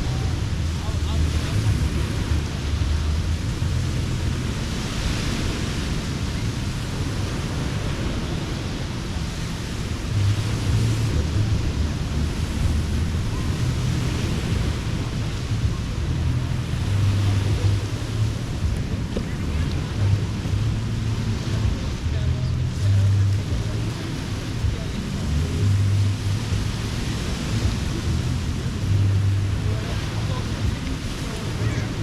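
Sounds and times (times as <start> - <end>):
surf washing onto a beach: 0.0 - 32.0
wind rumbling on microphone: 0.0 - 32.0.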